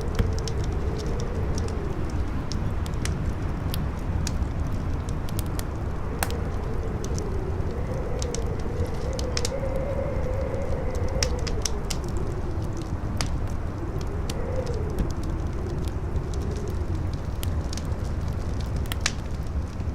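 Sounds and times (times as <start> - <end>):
campfire crackling: 0.0 - 19.9
howling wind: 0.0 - 19.9
strong wind rushing: 0.0 - 19.9.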